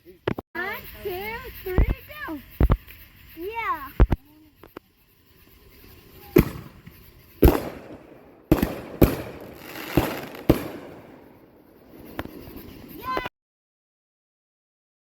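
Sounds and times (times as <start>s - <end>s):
fireworks bangs: 0.6s - 13.3s.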